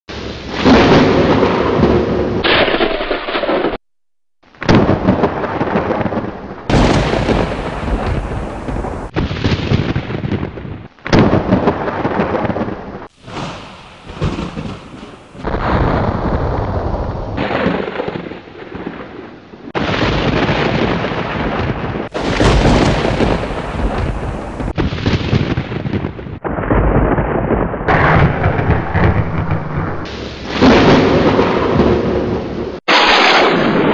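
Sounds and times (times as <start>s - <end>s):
thunder rumbling and cracking: 0.1s - 3.8s, 4.6s - 33.9s.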